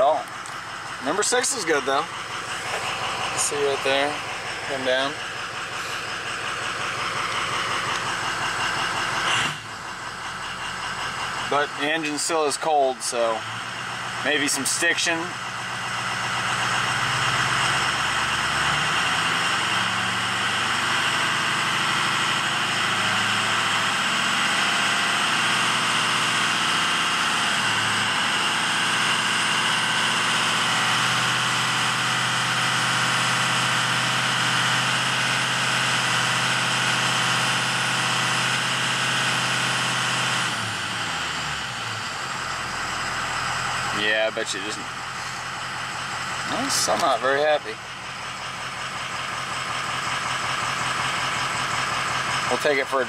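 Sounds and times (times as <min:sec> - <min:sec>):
diesel engine running with whine: 0:00.0 - 0:53.0.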